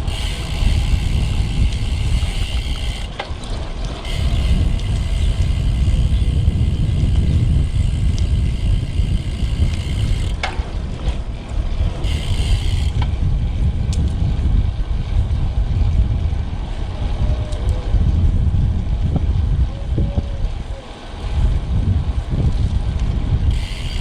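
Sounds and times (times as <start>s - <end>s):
road noise: 0.0s - 24.0s
wind rumbling on microphone: 0.0s - 24.0s.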